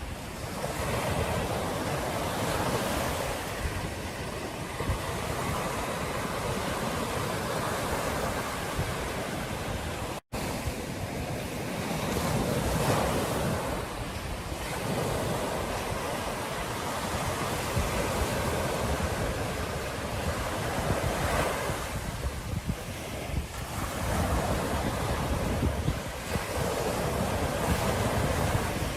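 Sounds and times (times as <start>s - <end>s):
ocean surf on beach: 0.0s - 28.9s
wind buffeting microphone: 0.0s - 28.9s.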